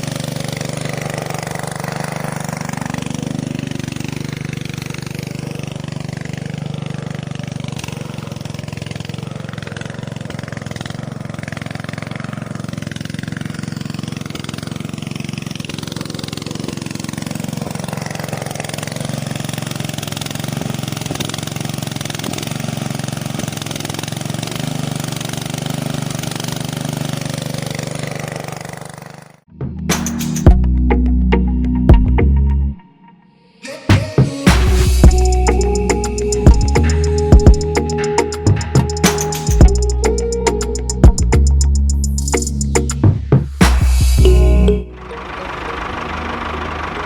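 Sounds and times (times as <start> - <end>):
small engine running: 0.0 - 31.1, 33.7 - 47.0.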